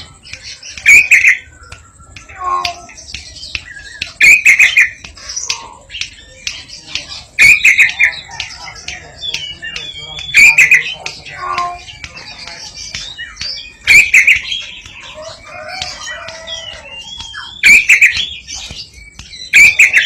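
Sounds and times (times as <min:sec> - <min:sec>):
bird chirps and whistles: 0:00.0 - 0:20.0
harsh bird call: 0:00.0 - 0:20.0.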